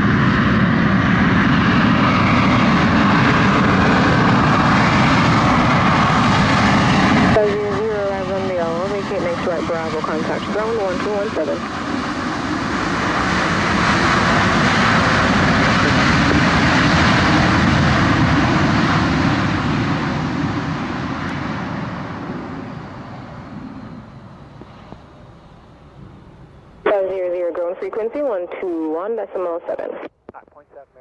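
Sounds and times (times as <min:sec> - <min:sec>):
jet engines in reverse thrust: 0:00.0 - 0:27.6.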